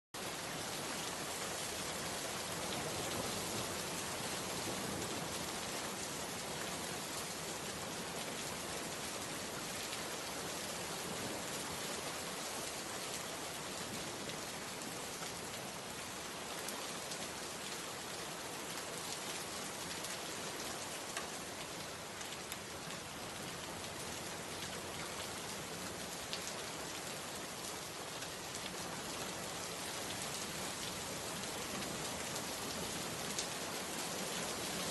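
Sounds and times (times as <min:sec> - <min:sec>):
rain-like hiss: 0:00.2 - 0:34.9.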